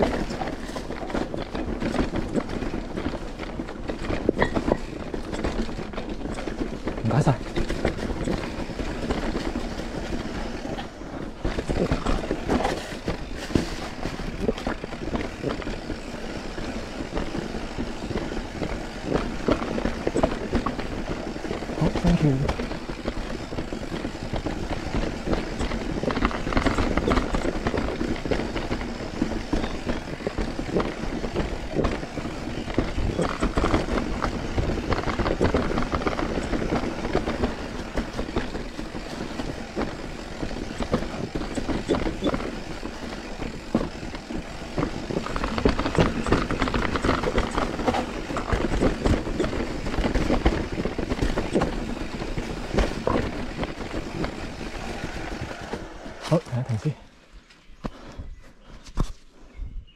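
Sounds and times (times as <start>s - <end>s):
bike rattling over bumps: 0.0s - 59.2s
bike tyres clattering on trail: 0.0s - 59.3s.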